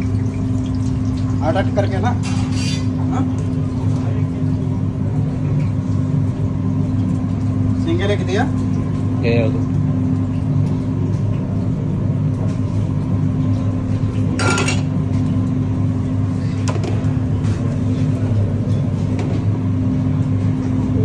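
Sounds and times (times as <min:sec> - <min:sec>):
kitchen machinery hum and rumble: 0:00.0 - 0:21.0.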